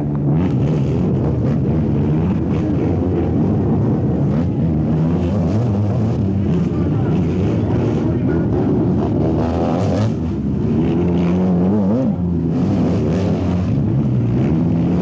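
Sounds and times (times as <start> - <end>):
motocross engines racing: 0.0 - 15.0.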